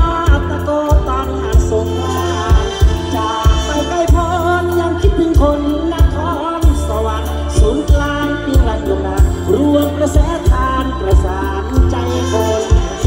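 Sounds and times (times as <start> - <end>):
band music over loudspeakers: 0.0 - 13.0.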